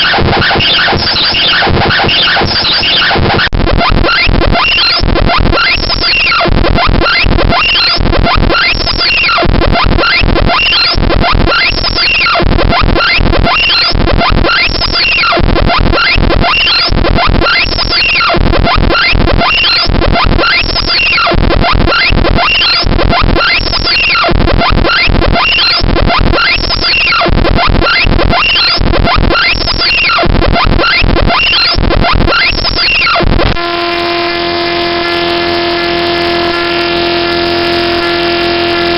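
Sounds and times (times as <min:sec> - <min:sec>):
buzzing electronic bass: 0:00.0 - 0:38.9
steady buzzing tones: 0:00.0 - 0:38.9
electronic sweeping chirps: 0:03.8 - 0:37.4.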